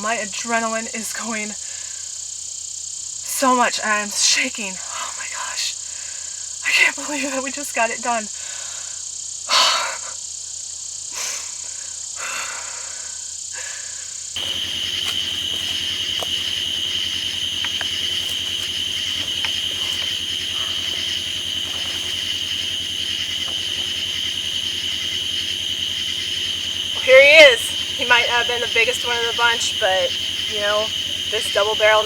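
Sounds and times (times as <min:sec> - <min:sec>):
night insect chorus: 0:00.0 - 0:32.0.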